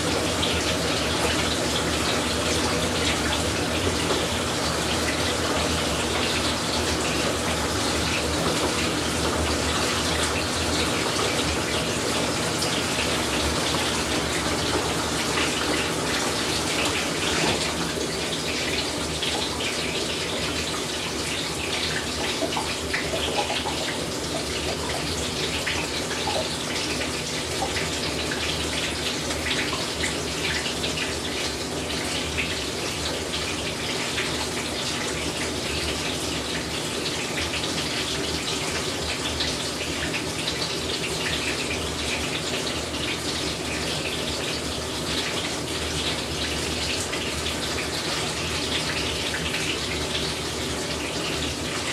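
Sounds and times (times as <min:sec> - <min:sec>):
water rushing into washer tub: 0:00.0 - 0:51.9.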